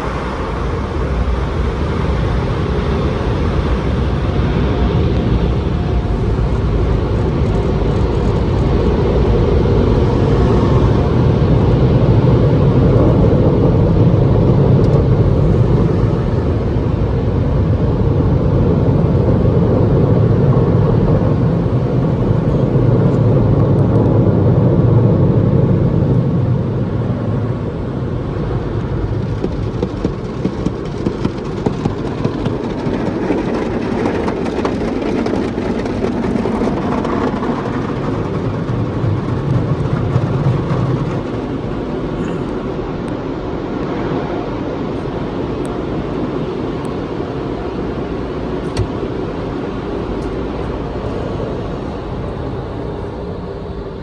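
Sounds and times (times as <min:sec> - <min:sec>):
car wash machinery rushing: 0:00.0 - 0:23.0, 0:27.1 - 0:46.4, 0:47.3 - 0:54.0.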